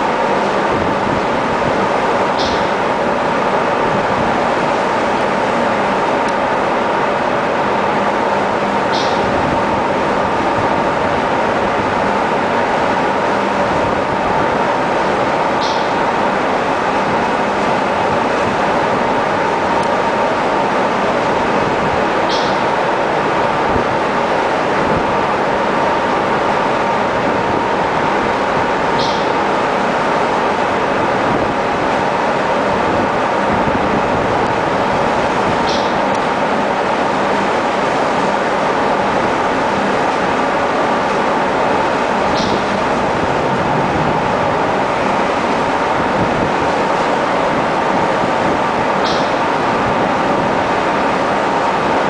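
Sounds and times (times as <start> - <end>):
machinery hum and rumble: 0.0 - 52.0.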